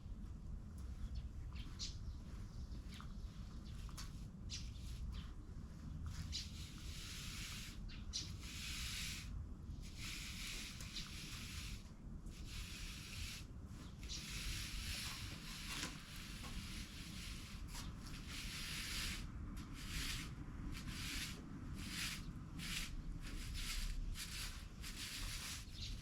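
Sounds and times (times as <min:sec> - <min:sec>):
rubbing strokes: 0:04.5 - 0:26.0.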